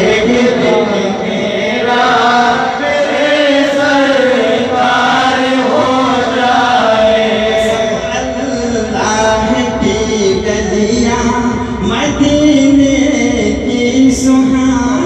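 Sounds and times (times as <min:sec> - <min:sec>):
men chanting devotional song: 0:00.0 - 0:15.0.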